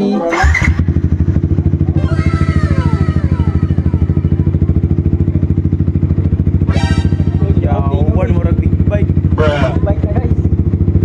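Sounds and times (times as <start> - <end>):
motorcycle engine idling: 0.3 - 11.0.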